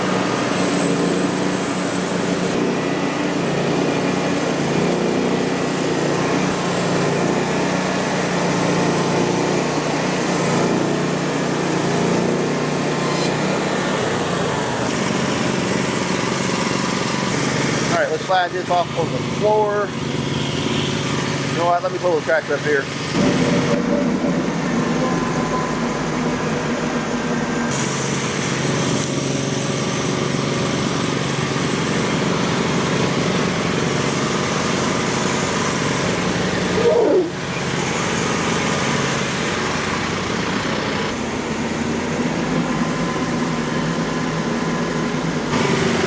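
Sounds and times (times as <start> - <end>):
diesel tractor engine running: 0.0 - 46.0.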